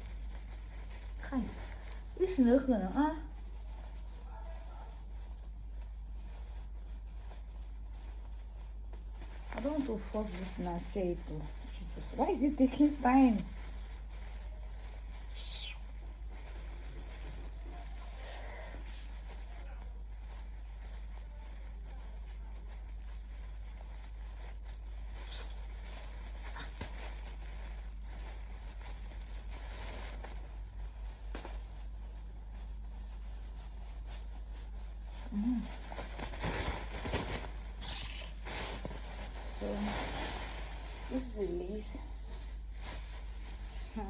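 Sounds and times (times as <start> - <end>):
fabric and packaging rustling: 0.0 - 44.0.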